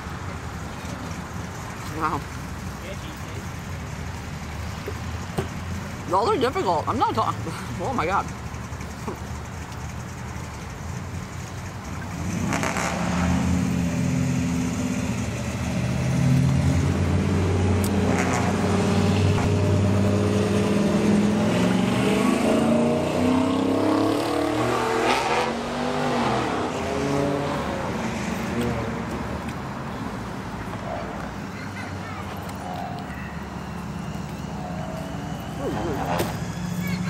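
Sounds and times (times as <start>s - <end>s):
vehicle engine running: 0.0s - 21.7s, 28.3s - 37.0s.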